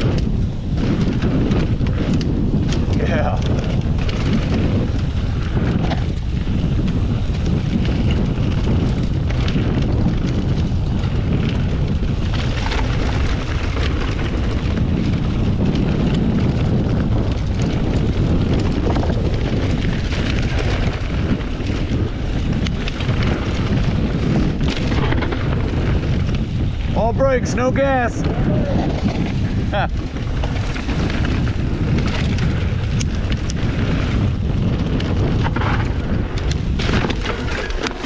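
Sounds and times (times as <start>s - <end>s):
bike rattling over bumps: 0.0s - 38.0s
bike tyres rolling on dirt: 0.0s - 38.0s
wind buffeting microphone: 0.0s - 38.0s.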